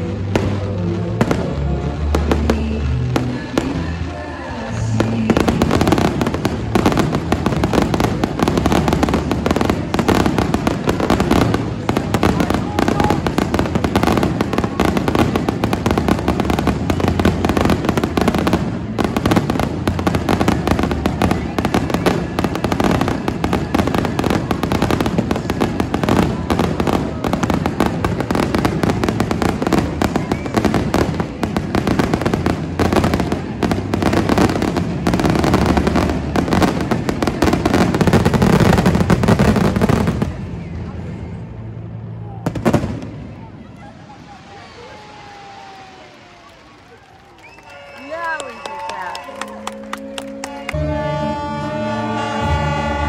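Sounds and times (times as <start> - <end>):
fireworks bangs and crackling: 0.0 - 49.2, 51.0 - 53.0.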